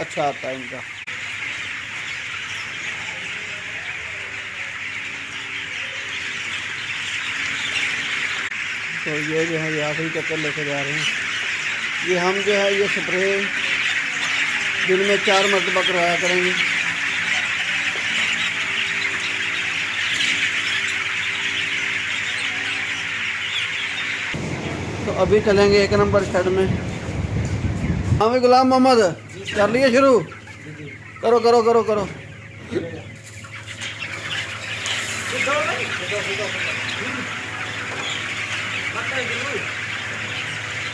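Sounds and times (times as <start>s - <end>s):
chickens chattering: 0.0s - 40.9s.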